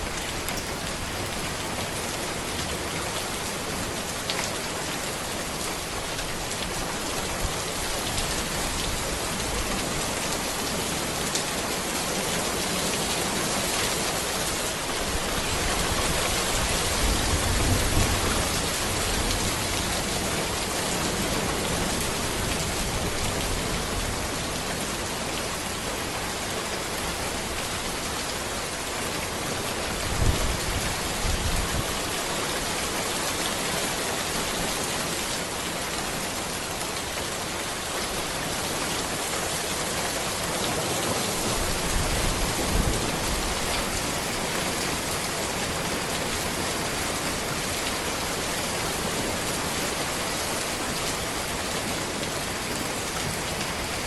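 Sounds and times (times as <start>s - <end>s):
rain falling on a road: 0.0s - 54.0s.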